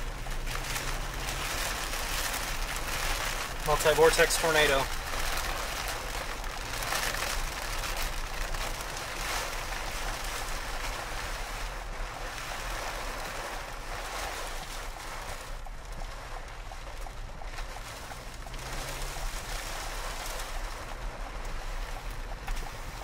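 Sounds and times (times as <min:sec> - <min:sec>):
constant low rumble: 0:00.0 - 0:23.0
heavy rain and wind on vehicle: 0:00.0 - 0:23.0
windshield wipers: 0:00.0 - 0:23.0.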